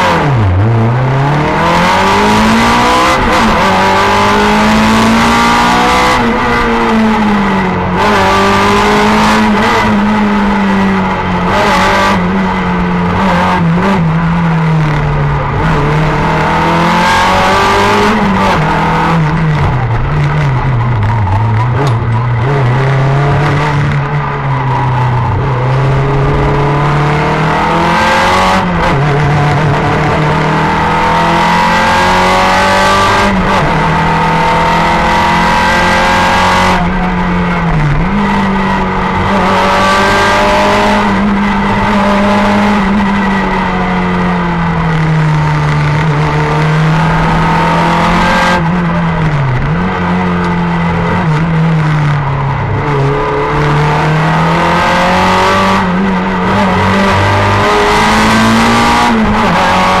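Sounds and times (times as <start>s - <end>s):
rally car engine revving: 0.0s - 60.0s.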